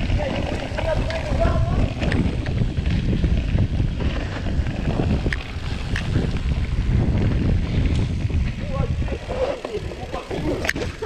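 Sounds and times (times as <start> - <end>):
bike clicks over rough ground: 0.0 - 11.0
bike tyre and frame rumble: 0.0 - 11.0
wind buffeting microphone: 0.0 - 11.0.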